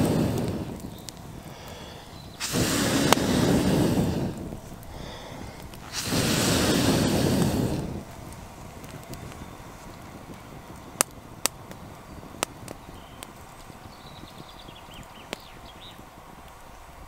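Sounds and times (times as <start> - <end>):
air blowing into embers: 0.0 - 17.0
fire popping: 0.0 - 17.0.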